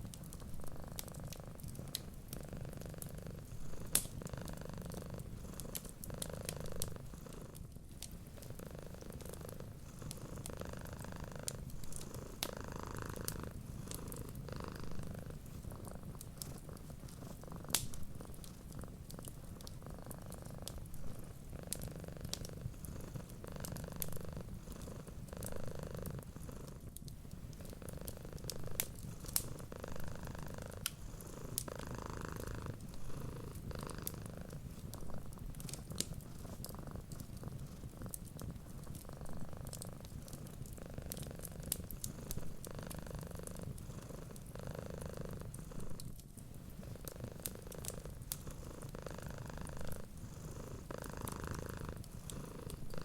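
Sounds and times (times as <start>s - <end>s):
wood fire popping and crackling: 0.0s - 44.6s, 45.3s - 50.1s, 50.7s - 53.0s
cat purring: 0.0s - 53.0s.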